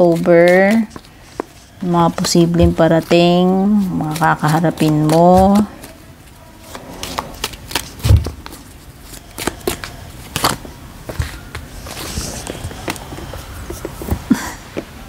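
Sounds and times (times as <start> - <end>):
cards being shuffled: 0.0 - 14.4.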